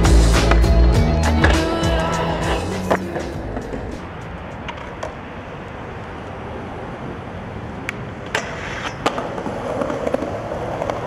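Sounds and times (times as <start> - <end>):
skateboard clacking: 0.0 - 1.8, 2.4 - 6.3, 7.7 - 11.0
skateboard wheels rolling on concrete: 0.0 - 11.0.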